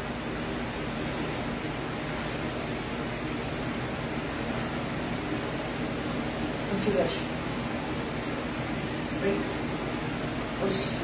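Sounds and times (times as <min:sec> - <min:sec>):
steady room hiss: 0:00.0 - 0:11.0.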